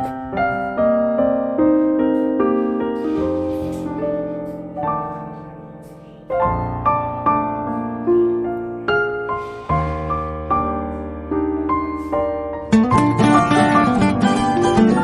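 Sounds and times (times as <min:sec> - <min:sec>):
slow piano piece: 0:00.0 - 0:15.0.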